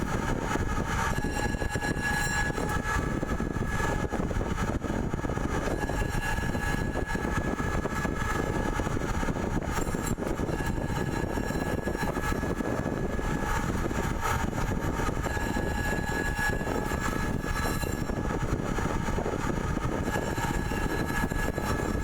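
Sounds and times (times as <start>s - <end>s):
faint high whine: 0.0s - 22.0s
lathe rumbling and hissing: 0.1s - 22.0s.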